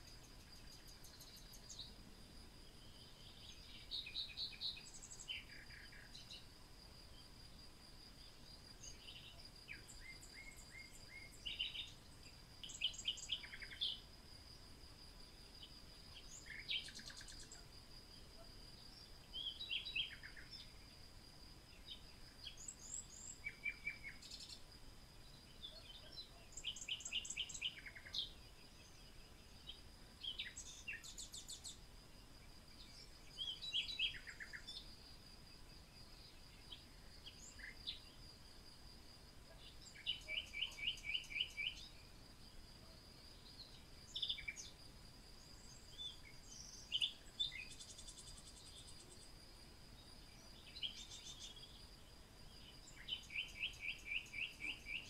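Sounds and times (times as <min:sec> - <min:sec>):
small birds chirping: 0:00.0 - 0:14.2, 0:15.2 - 0:38.7, 0:39.4 - 0:55.0.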